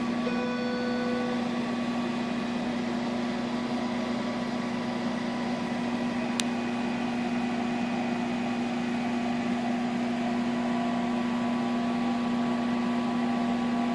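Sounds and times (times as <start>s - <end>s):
printer machine hum: 0.0s - 13.9s.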